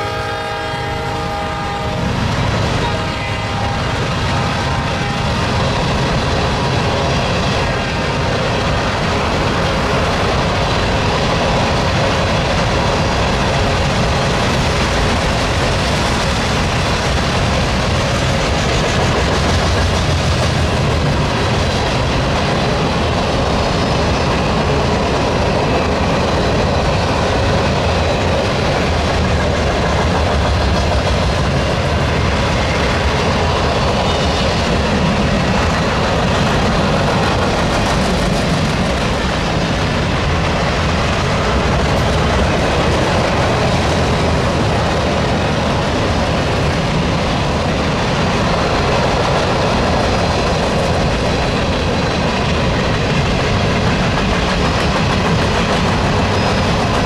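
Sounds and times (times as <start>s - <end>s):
train wheels clattering on rail: 0.0s - 57.0s.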